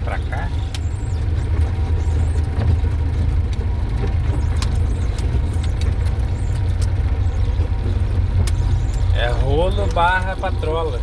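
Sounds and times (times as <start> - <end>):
diesel engine rumbling: 0.0 - 11.0
sharp clicks and rattles: 0.0 - 11.0.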